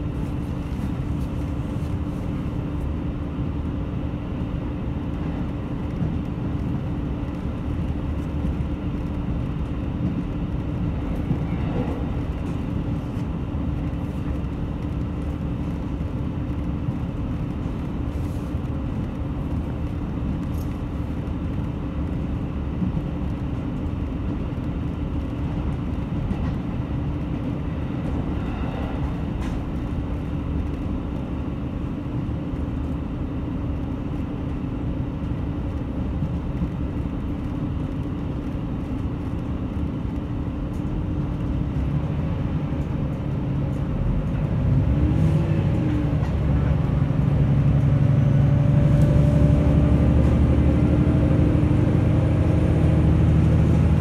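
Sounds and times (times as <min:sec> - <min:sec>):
train engine hum: 0:00.0 - 0:54.0
wheels rumbling on rail: 0:00.0 - 0:54.0.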